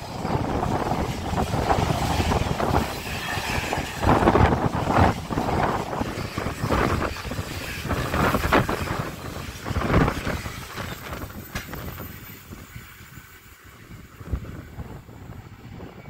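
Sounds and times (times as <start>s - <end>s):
freight train wagons rushing past: 0.0s - 16.0s
wind buffeting microphone: 0.0s - 16.0s.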